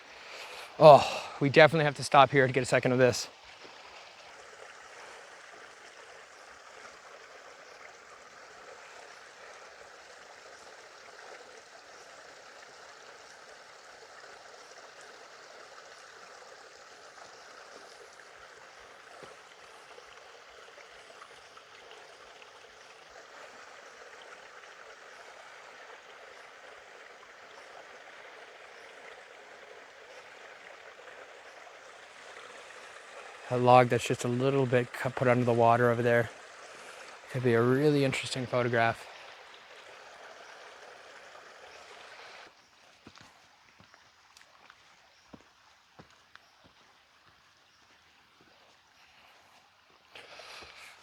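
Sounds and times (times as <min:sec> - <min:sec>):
stream trickling and babbling: 0:00.0 - 0:51.0.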